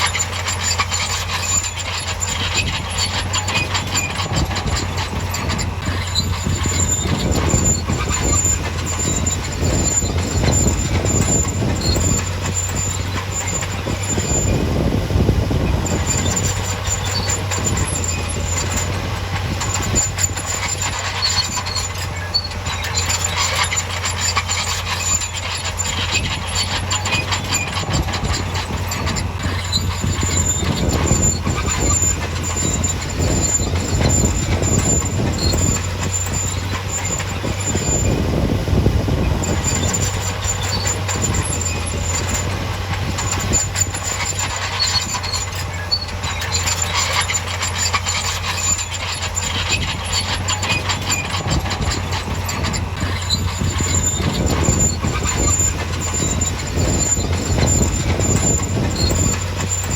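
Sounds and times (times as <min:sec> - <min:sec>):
diesel engine running: 0:00.0 - 0:59.9
high-pitched squeal: 0:00.0 - 0:59.9
metallic clanking and rattling: 0:00.0 - 0:59.9.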